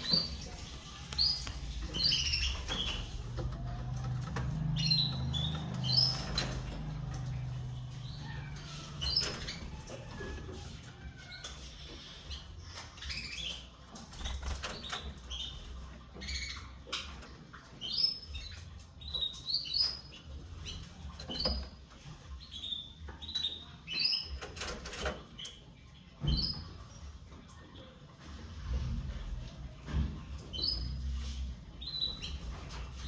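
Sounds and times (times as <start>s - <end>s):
canary chirping: 0.0s - 28.6s, 30.4s - 33.0s.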